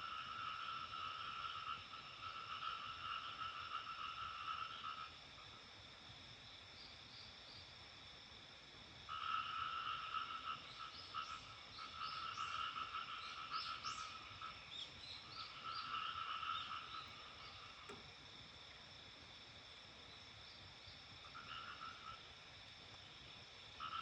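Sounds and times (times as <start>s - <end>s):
frogs trilling: 0.0s - 5.6s, 9.1s - 18.8s, 20.0s - 24.0s
high insect drone: 0.0s - 24.0s.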